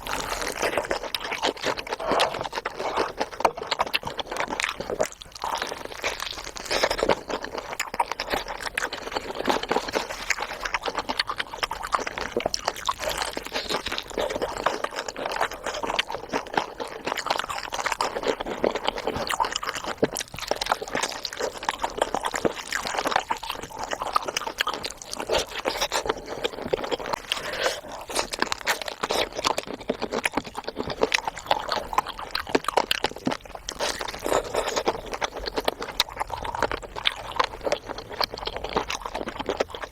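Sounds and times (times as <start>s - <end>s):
close chewing with crackly clicks: 0.0s - 39.9s.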